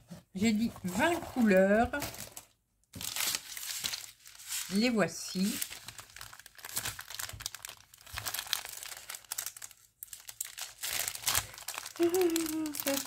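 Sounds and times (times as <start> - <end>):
plastic bags crinkling: 0.6 - 13.0.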